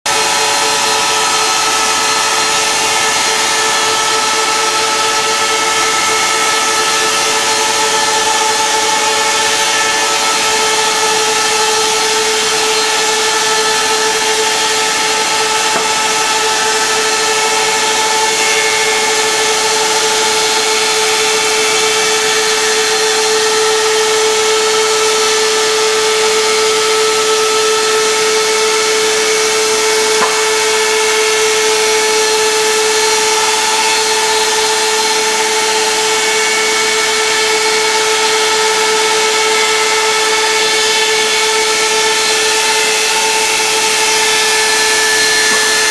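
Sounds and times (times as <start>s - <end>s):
slicer machine running: 0.1s - 45.9s.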